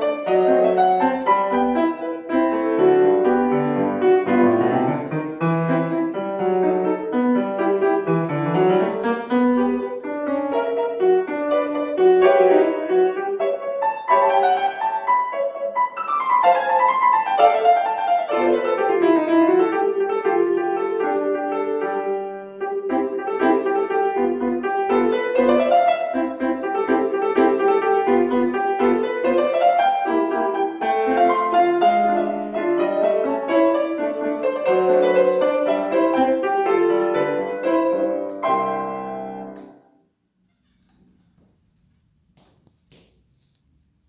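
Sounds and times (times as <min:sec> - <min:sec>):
piano playing quick runs: 0:00.0 - 0:41.4.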